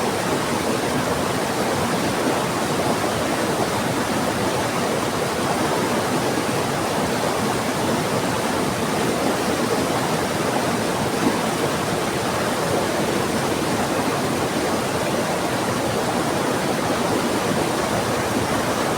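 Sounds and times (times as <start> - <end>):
fast-flowing river: 0.0 - 18.9.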